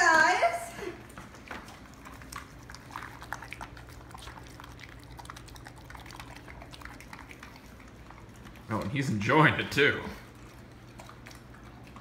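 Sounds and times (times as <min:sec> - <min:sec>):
dog chewing wet food: 0:01.0 - 0:12.0.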